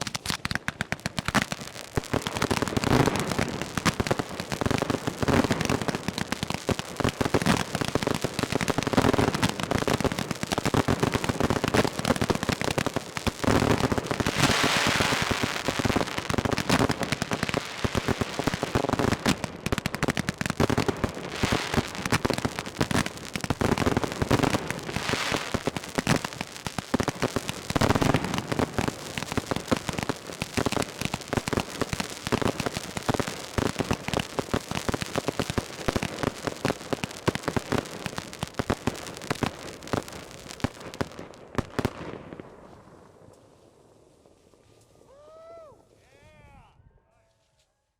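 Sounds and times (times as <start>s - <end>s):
fireworks bangs and crackling: 0.0s - 45.2s
hissing crackle: 0.0s - 45.2s.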